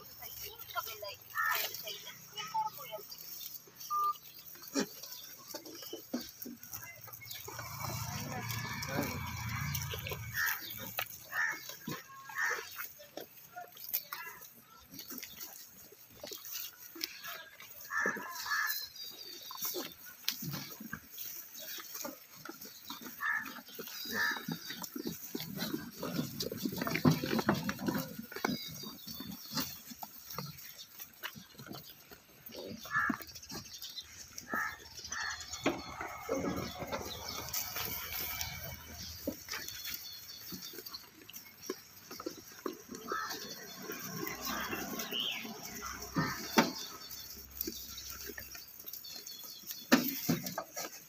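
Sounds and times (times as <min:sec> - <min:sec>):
goats crunching and knocking: 0:00.0 - 0:51.0.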